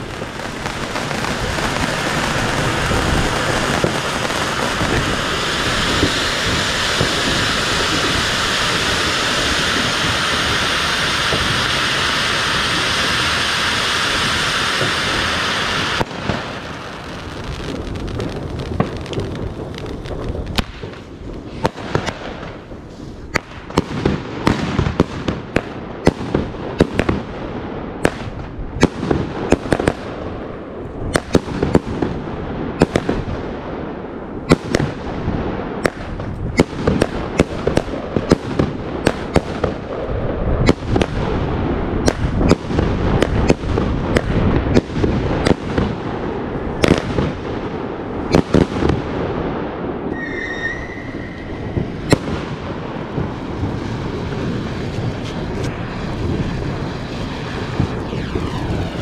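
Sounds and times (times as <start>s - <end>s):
crackle and rumble: 0.0s - 59.0s
fireworks bangs: 0.0s - 59.0s.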